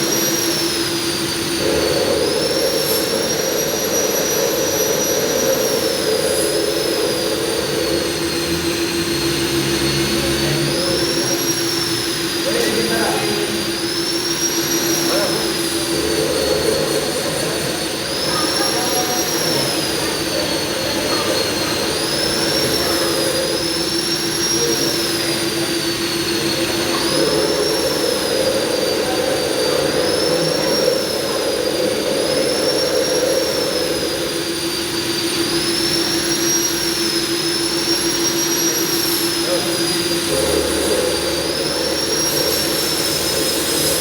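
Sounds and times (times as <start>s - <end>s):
high machine whine: 0.0s - 44.0s
milling machine hum: 0.0s - 44.0s.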